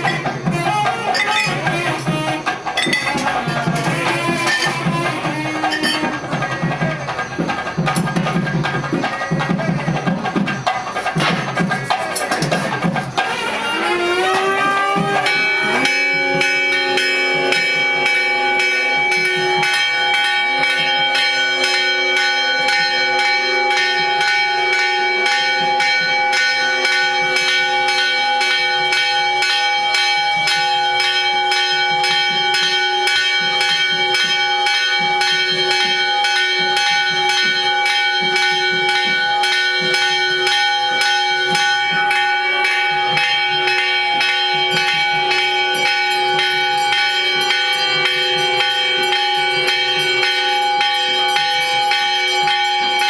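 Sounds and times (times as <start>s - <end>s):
temple bells ringing: 0.0s - 53.0s.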